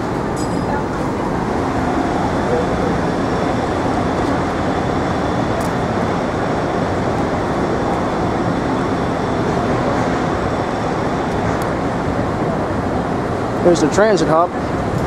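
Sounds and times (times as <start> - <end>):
traffic rushing: 0.0 - 15.0.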